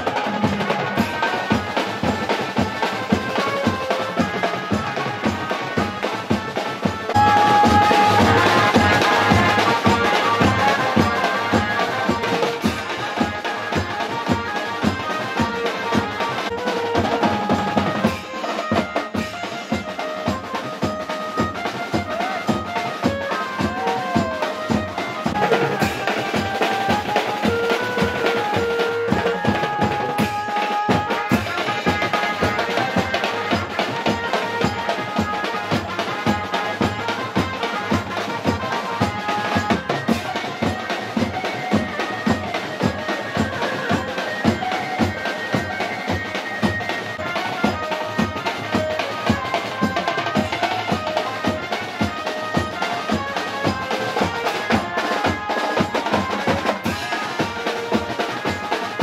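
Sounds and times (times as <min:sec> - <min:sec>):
fast drumming: 0:00.0 - 0:59.0
live dance band music: 0:00.0 - 0:59.0.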